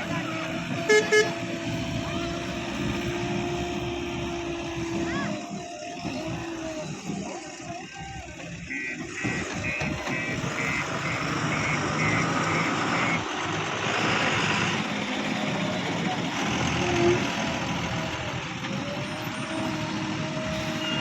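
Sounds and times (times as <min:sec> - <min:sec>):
heavy machinery engine running: 0:00.0 - 0:21.0
reversing alarm beeping: 0:01.9 - 0:13.3, 0:14.8 - 0:21.0.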